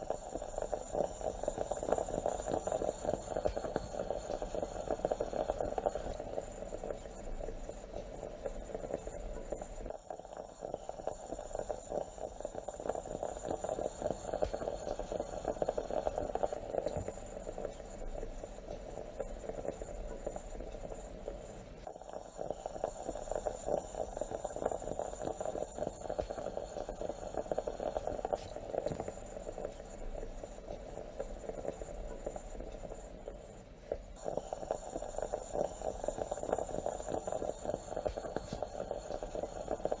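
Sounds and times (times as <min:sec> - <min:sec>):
moka pot bubbling and sputtering: 0:00.0 - 0:40.0.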